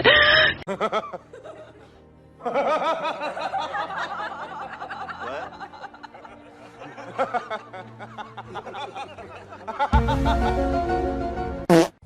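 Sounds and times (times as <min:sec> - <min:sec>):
laughter-like sounds: 0:00.0 - 0:10.8
music: 0:00.7 - 0:12.0.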